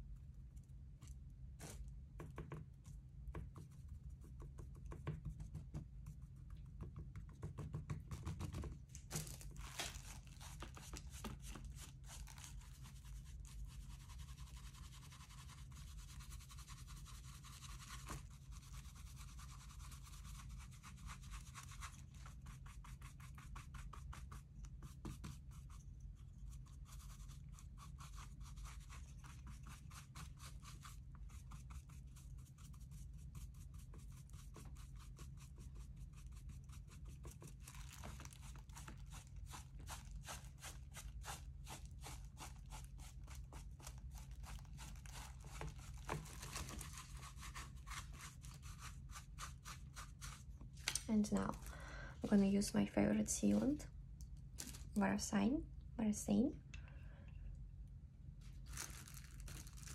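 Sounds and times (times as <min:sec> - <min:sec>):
hand scratching and rubbing a surface: 0:00.0 - 0:51.7, 0:58.4 - 0:59.9.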